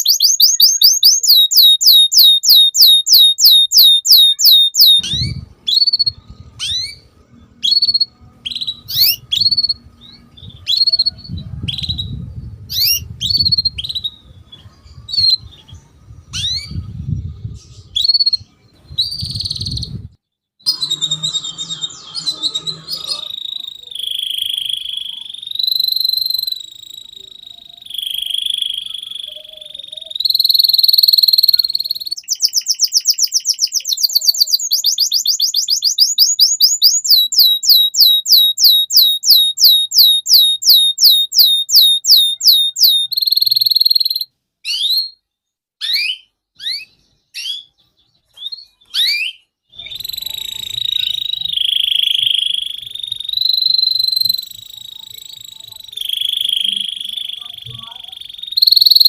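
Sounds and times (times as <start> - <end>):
canary singing: 0.0 - 16.9, 17.6 - 59.0.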